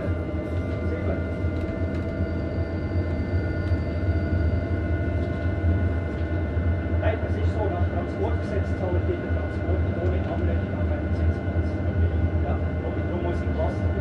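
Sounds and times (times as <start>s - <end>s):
train interior rumble: 0.0s - 14.0s.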